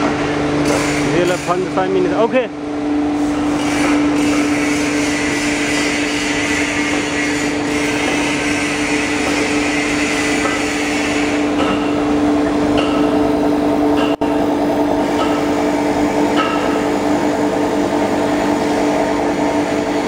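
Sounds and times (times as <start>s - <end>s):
foam-cutting machine humming: 3.2s - 20.0s.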